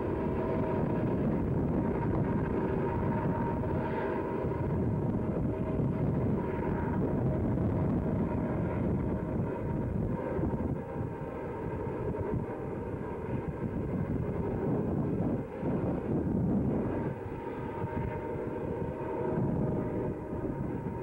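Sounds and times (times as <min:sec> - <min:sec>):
distant diesel locomotives rumbling: 0:00.0 - 0:21.0
wind on microphone: 0:00.0 - 0:21.0.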